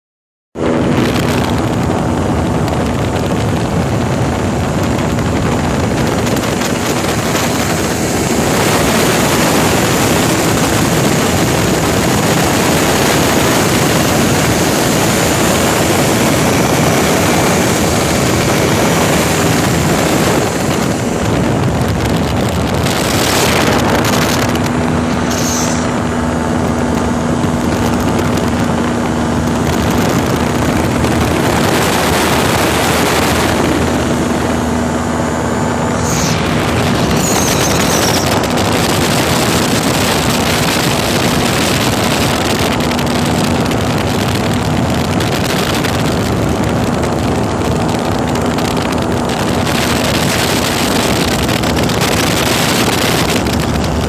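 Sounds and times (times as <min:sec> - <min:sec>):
engine droning: 0:00.6 - 0:54.0
wind rushing over microphone: 0:00.6 - 0:54.0.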